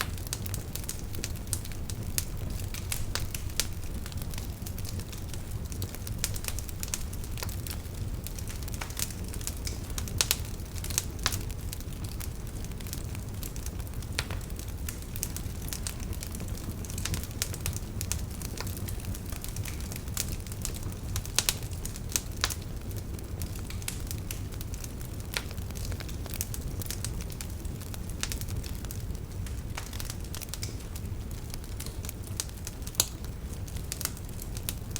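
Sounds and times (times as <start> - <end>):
campfire crackling and popping: 0.0 - 34.9.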